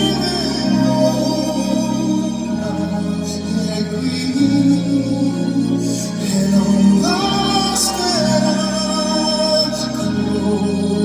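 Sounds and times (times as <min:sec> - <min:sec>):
live instrumental chords: 0:00.0 - 0:11.0.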